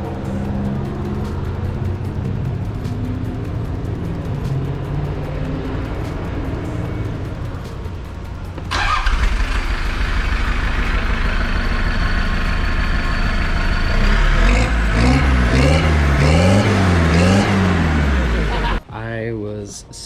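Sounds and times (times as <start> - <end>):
diesel engine revving: 0.0 - 18.8.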